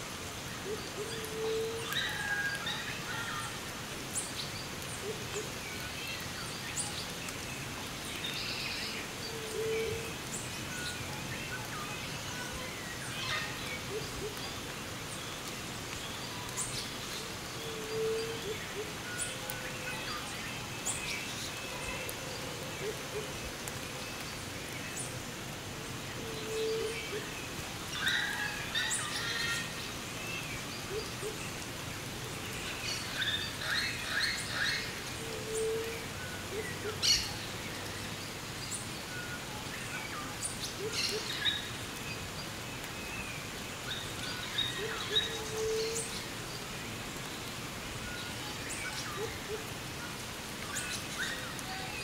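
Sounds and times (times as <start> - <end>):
light rain hissing: 0.0 - 52.0.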